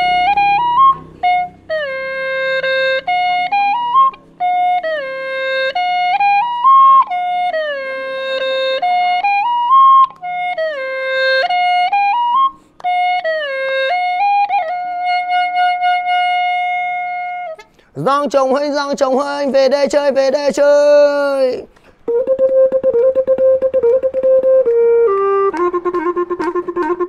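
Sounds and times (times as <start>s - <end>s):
wind instrument solo melody: 0.0s - 17.7s, 20.8s - 27.0s.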